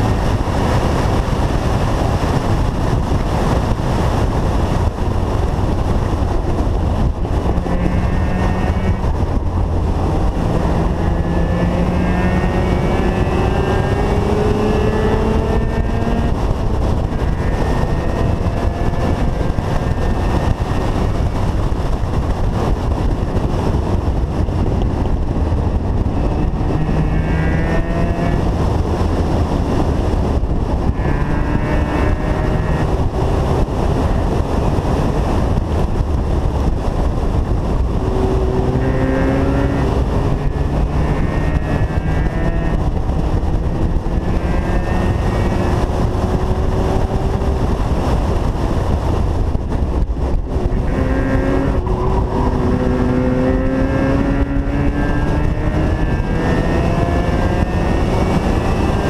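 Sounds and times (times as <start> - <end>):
car engine running hard: 0.0 - 59.0
wind on microphone: 0.0 - 59.0.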